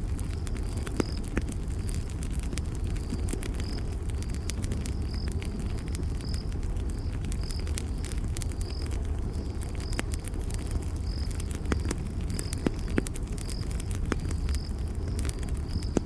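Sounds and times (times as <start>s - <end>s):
campfire crackling: 0.0s - 16.0s
cricket chirping: 2.4s - 16.0s.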